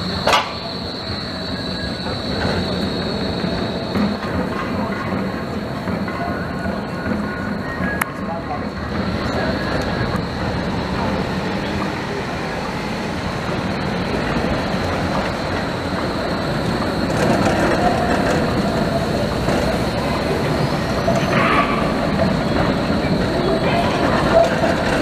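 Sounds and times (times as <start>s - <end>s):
tram wheels rolling on rails: 0.0s - 25.0s.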